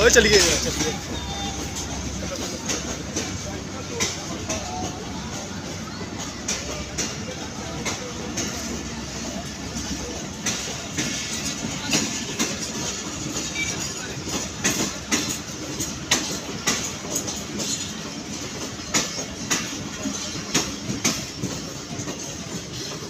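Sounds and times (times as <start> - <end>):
train rumbling: 0.0 - 23.0
wheels clicking over rail joints: 0.0 - 23.0.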